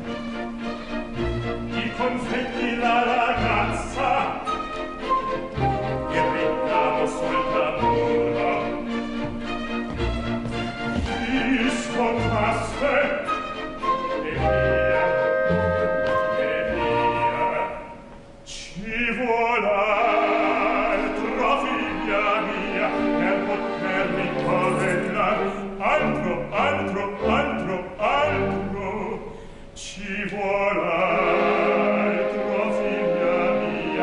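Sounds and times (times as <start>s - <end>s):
orchestra playing: 0.0s - 29.3s, 30.4s - 34.0s
male bass opera singing: 1.7s - 4.5s, 5.9s - 8.9s, 11.1s - 13.4s, 14.2s - 34.0s.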